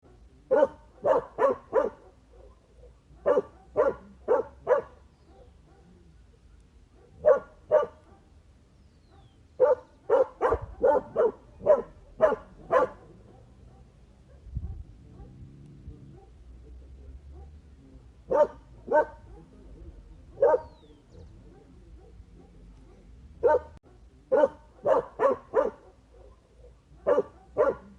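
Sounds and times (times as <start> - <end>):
dog barking: 0.0 - 8.4, 9.1 - 16.6, 17.2 - 17.7, 18.3 - 27.9.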